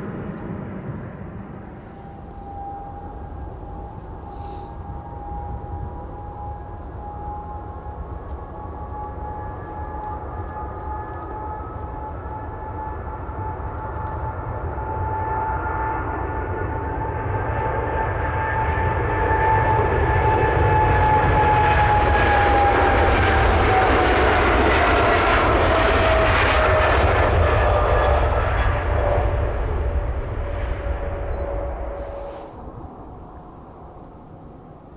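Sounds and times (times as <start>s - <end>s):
jet airliner roar and whine: 0.0s - 34.9s.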